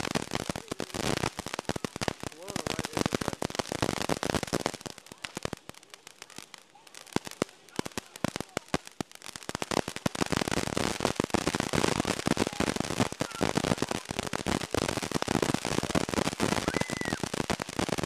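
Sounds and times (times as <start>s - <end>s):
fireworks crackling pops: 0.0s - 18.0s
fireworks sparks hissing: 0.0s - 18.0s.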